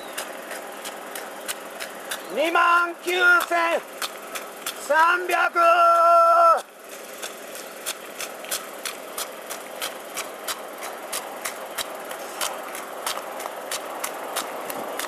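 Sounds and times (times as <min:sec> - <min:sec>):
running footsteps: 0:00.0 - 0:15.0
steady rushing background noise: 0:00.0 - 0:15.0.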